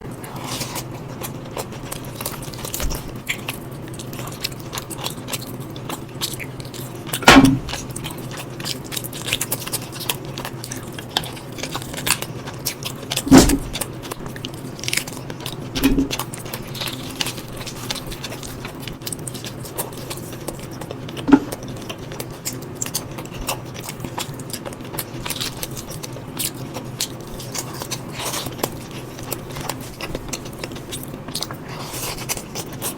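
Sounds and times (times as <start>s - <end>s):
low steady hum: 0.0s - 32.9s
person chewing food: 0.0s - 32.9s.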